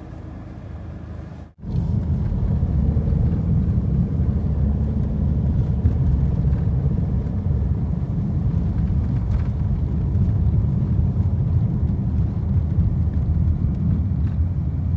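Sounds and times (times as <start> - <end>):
vehicle engine rumble: 0.0 - 14.9.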